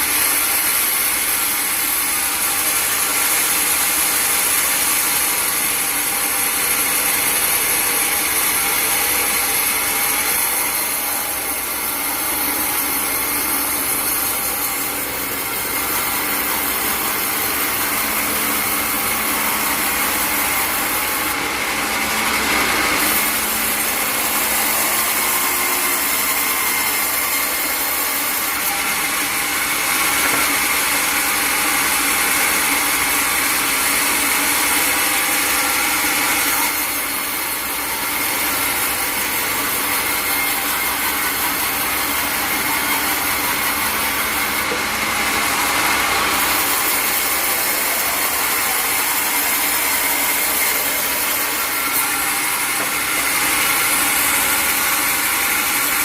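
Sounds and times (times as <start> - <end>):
saw cutting through timber: 0.0 - 56.0.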